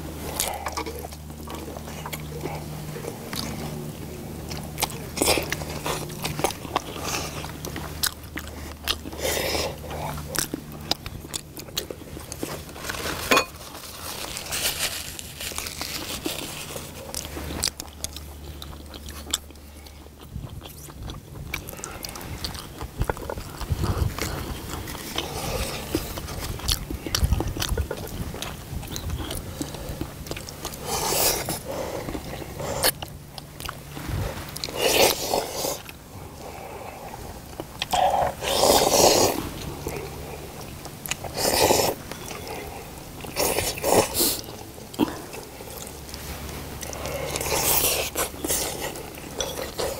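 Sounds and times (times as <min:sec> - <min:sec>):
people chewing and biting: 0:00.0 - 0:49.9
slurping: 0:00.0 - 0:49.9.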